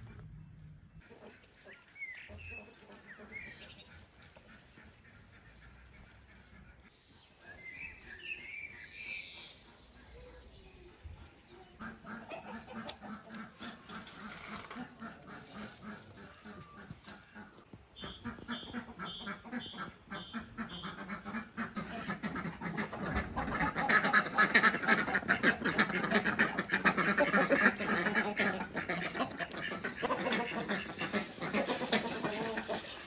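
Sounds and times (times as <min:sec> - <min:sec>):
ducks quacking: 0:00.0 - 0:07.2, 0:09.4 - 0:33.0
chickens clucking: 0:00.0 - 0:33.0.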